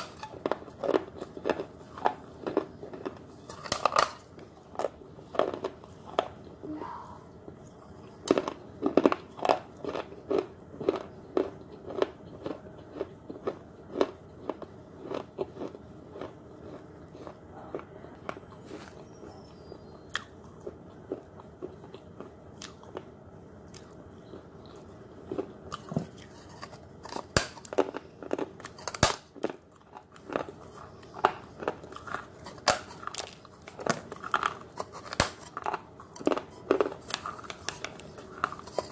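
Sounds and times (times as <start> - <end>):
clay crunching between teeth: 0.0 - 6.6, 7.6 - 23.1, 23.7 - 38.9.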